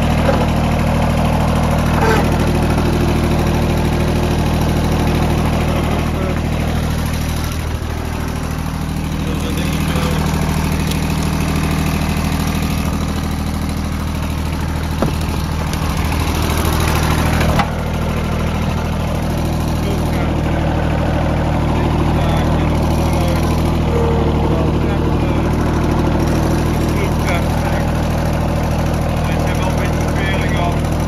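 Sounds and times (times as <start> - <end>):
small diesel engine idling: 0.0 - 31.0.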